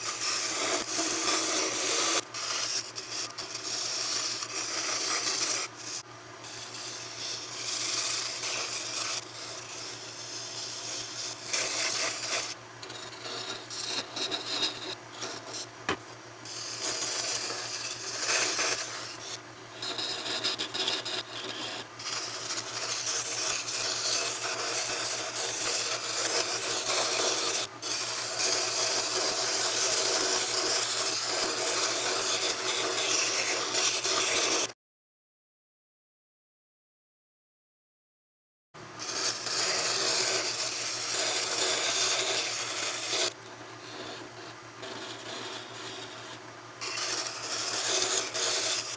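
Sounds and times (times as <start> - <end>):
tool scraping spinning wood: 0.0 - 34.7, 39.0 - 48.9.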